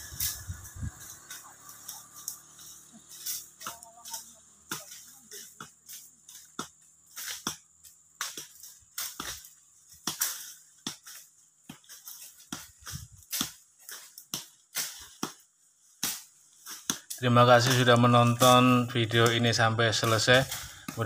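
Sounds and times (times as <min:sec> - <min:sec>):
blades chopping brush: 0:00.0 - 0:15.4, 0:16.0 - 0:21.0.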